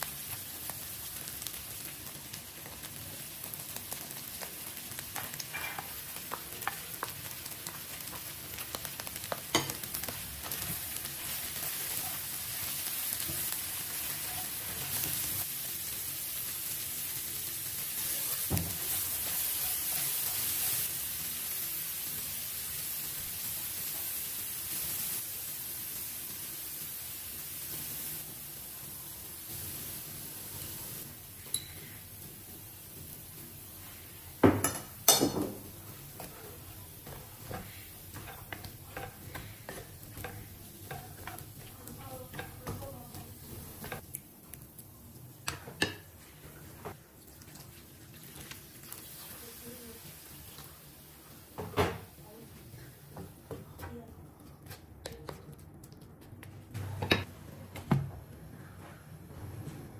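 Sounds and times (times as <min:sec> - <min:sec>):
food sizzling in a pan: 0:00.0 - 0:53.7.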